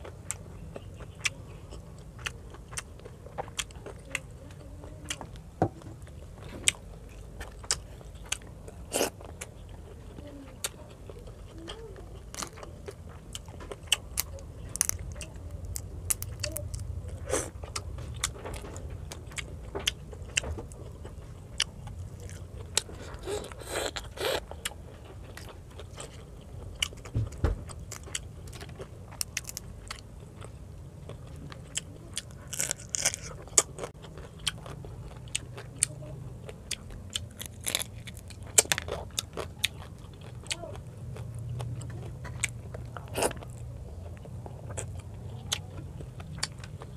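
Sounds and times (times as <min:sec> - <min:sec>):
chewing and crunching food: 0:00.0 - 0:46.9.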